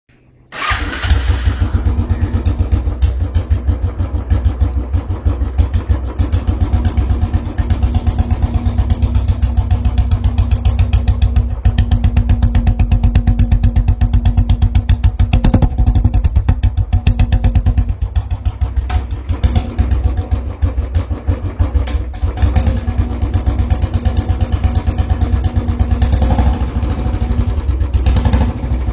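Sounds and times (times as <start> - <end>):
motorcycle engine idling: 0.6 - 28.9.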